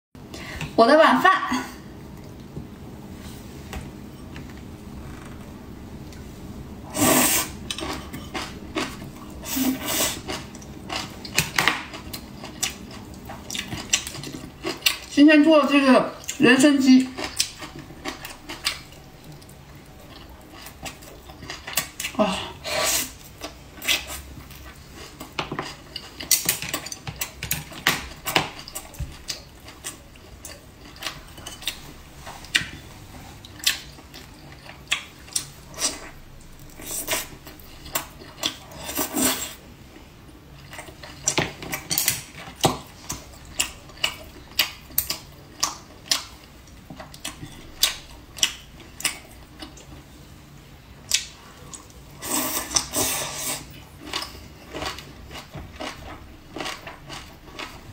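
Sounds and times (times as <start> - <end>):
person chewing: 6.9 - 15.1, 17.1 - 50.1, 51.1 - 57.9.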